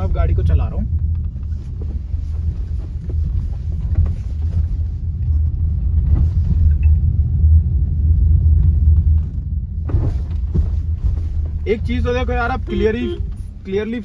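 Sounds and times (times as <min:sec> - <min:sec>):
road rumble inside car: 0:00.0 - 0:14.0.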